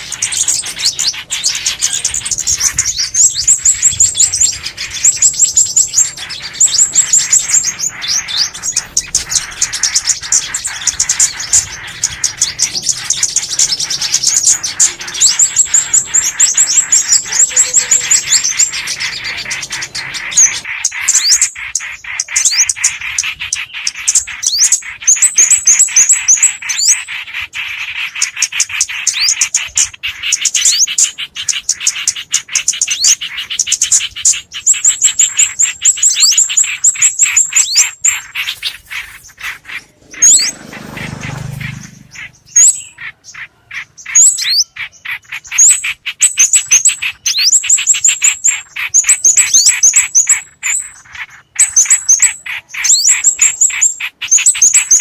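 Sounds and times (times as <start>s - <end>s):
bird chatter: 0.0s - 55.0s
songbirds twittering: 0.0s - 55.0s.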